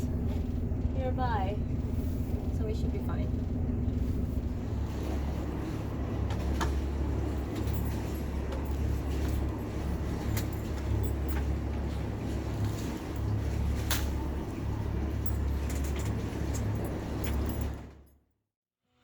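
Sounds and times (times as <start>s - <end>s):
boat engine low rumble: 0.0s - 18.2s.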